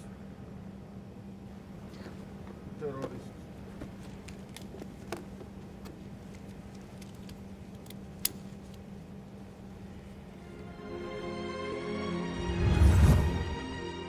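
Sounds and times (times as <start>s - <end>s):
airliner cabin hum: 0.0s - 11.5s.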